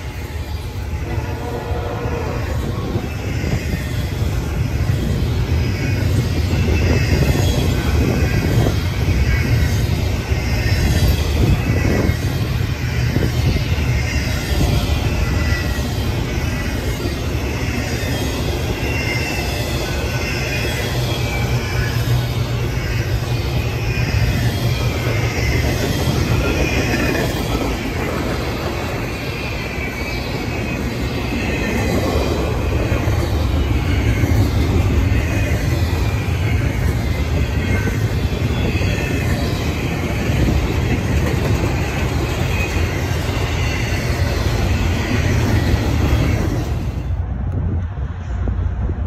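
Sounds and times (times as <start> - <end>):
wheel squeal: 0.0 - 47.1
rumble of train wheels on rail: 0.0 - 49.0.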